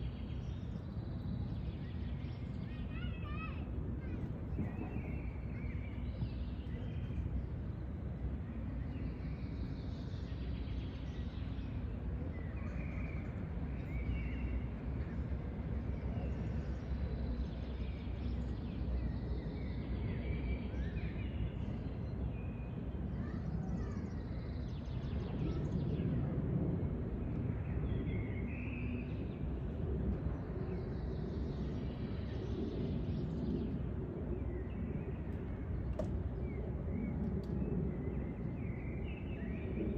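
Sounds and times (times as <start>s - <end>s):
bird calls and chirps: 0.0s - 7.5s, 8.5s - 26.2s, 30.2s - 39.9s.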